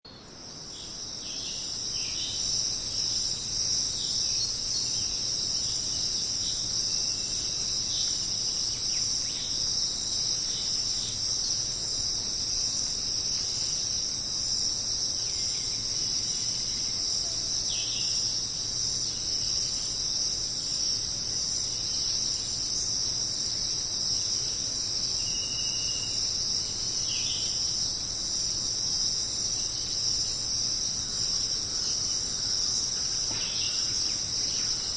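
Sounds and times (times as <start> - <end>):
insect chorus buzzing: 0.1 - 34.9.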